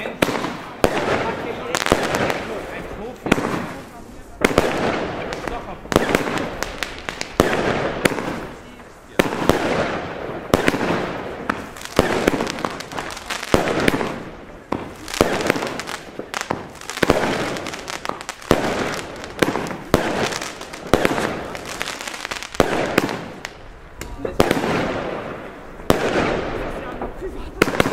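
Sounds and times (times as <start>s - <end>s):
firework cake bangs: 0.0s - 27.9s.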